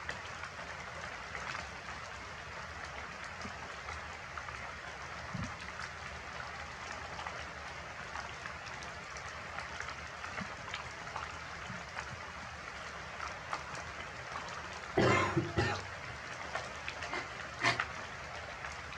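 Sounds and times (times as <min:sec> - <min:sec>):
steady rain falling: 0:00.0 - 0:18.9.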